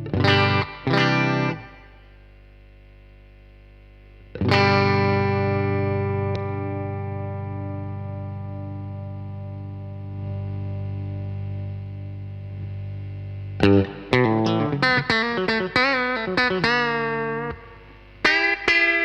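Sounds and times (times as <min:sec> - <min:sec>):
electric guitar lead line: 0:00.0 - 0:02.2, 0:04.3 - 0:19.0.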